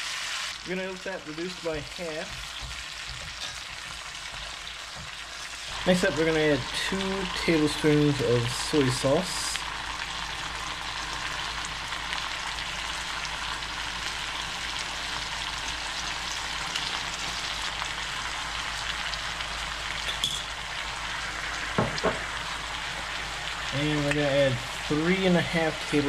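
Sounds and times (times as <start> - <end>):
chicken sizzling in a pot: 0.0 - 26.0.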